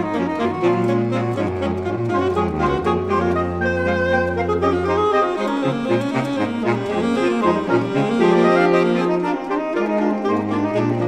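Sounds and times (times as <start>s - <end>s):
saxophone quartet playing: 0.0s - 11.0s.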